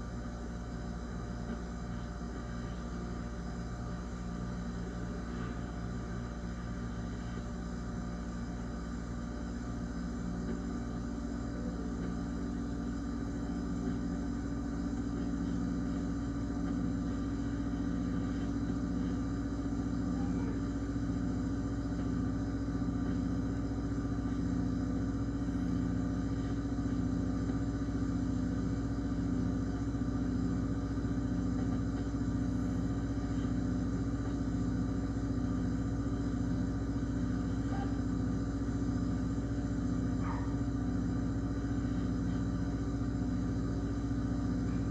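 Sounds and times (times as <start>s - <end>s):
refrigerator humming: 0.0s - 44.9s.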